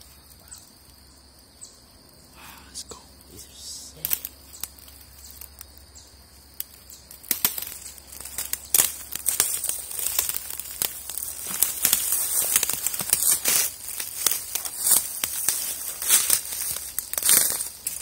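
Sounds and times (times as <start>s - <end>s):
dry leaves and twigs crackling: 0.0s - 18.0s.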